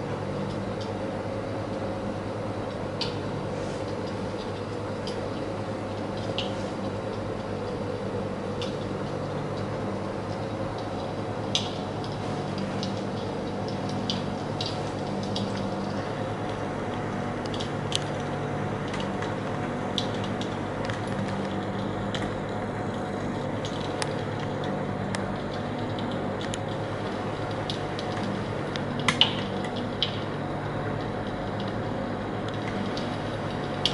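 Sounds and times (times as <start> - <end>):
steady low hum: 0.0 - 33.9
fire crackling and popping: 1.7 - 33.9.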